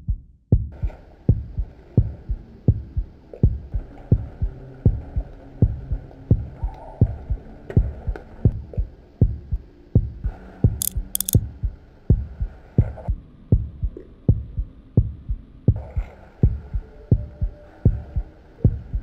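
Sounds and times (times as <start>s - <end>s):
heartbeat thumps: 0.0s - 19.0s.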